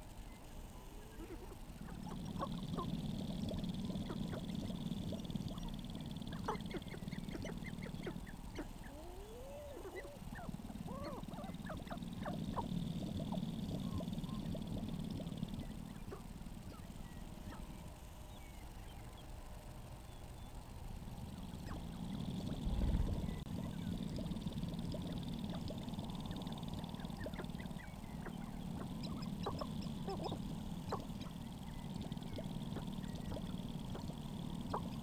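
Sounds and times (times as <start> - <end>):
grouse clucking and cackling: 0.0 - 18.0, 21.1 - 35.0
low droning hum: 0.0 - 35.0
whine-like bird notes: 0.0 - 35.0.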